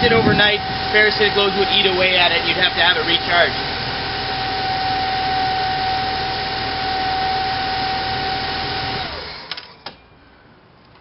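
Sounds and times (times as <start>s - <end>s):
car engine running with whine: 0.0s - 9.4s.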